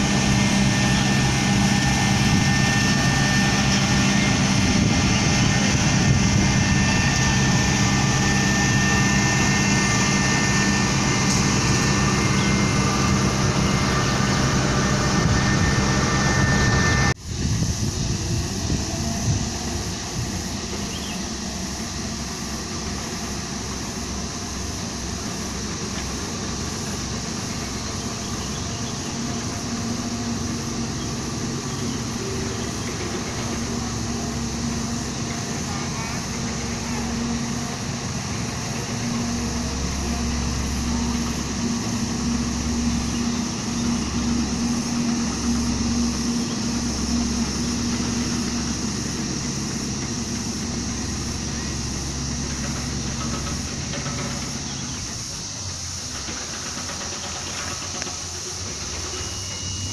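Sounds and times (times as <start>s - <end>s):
heavy machinery engine drone: 0.0s - 59.9s
quieter machine engine: 0.0s - 59.9s.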